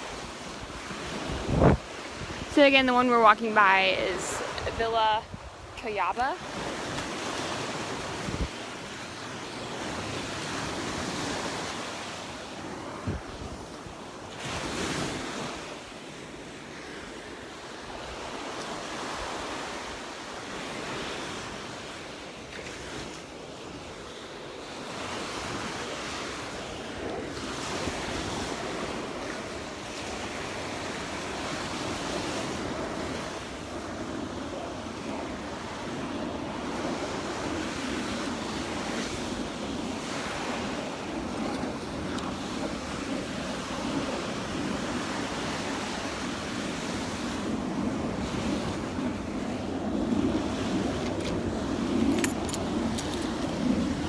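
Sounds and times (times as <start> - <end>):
wind buffeting microphone: 0.0 - 15.7, 24.9 - 54.0
surf breaking on sandy beach: 0.0 - 54.0.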